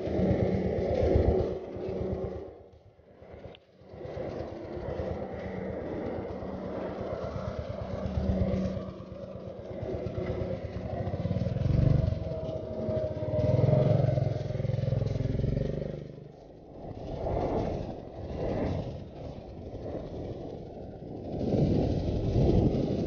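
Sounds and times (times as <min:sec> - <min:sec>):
motorcycle engine accelerating: 0:00.0 - 0:23.0
wind rush: 0:00.0 - 0:23.0.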